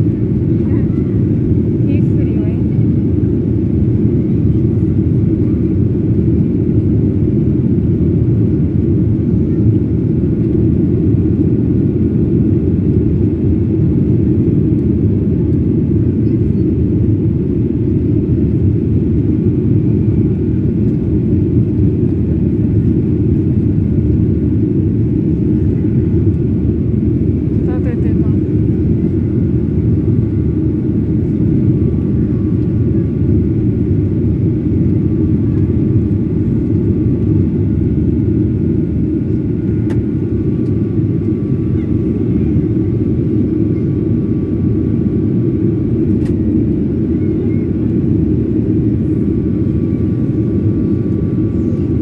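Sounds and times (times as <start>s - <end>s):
jet engines rumbling: 0.0s - 52.0s.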